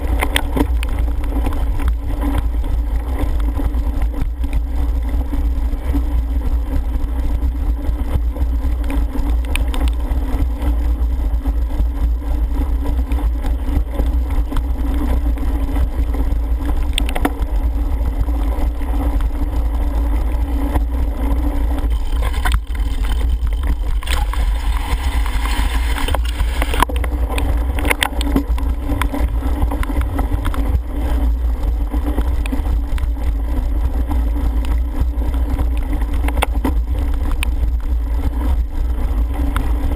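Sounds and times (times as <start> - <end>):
bike clicking and rattling: 0.0 - 39.9
tyres rumbling on wet grass: 0.0 - 39.9
wind buffeting microphone: 0.0 - 39.9.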